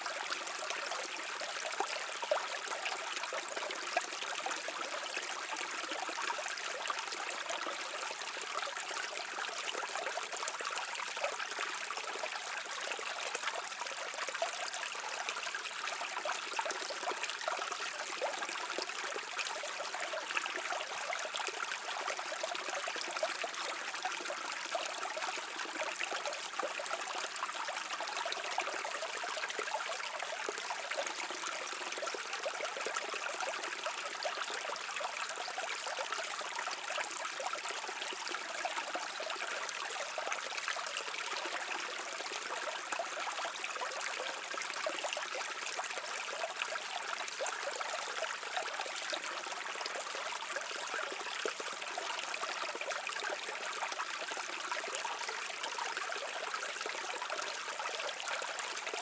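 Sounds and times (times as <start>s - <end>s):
brook flowing over stones: 0.0s - 59.0s.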